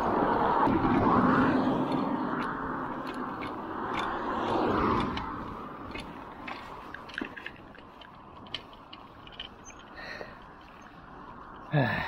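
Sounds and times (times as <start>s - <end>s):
bicycle clicks and rattles: 0.0s - 11.8s
car tyres passing: 0.0s - 12.0s.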